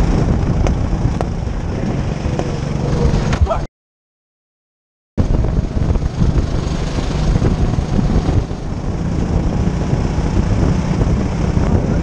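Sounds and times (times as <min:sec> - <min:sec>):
go-kart engine running at speed: 0:00.0 - 0:03.6, 0:05.2 - 0:12.0
wind on microphone: 0:00.0 - 0:03.6, 0:05.2 - 0:12.0.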